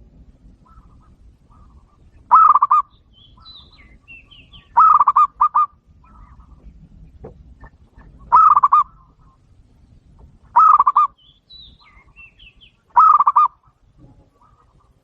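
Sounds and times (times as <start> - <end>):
dove cooing: 0.5 - 9.5, 10.5 - 15.0.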